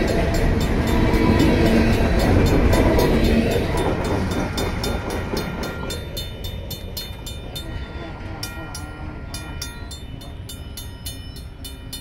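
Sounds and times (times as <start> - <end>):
crossing bell ringing: 0.0 - 12.0
freight train rumbling: 0.0 - 12.0.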